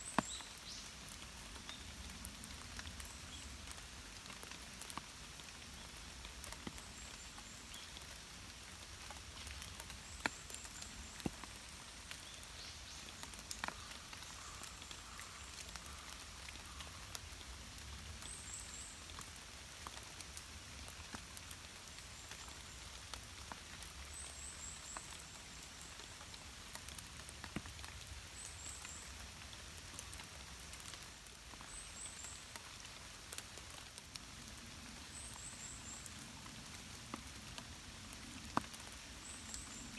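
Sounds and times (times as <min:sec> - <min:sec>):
light rain: 0:00.0 - 0:39.9
raindrops ticking: 0:00.0 - 0:39.9.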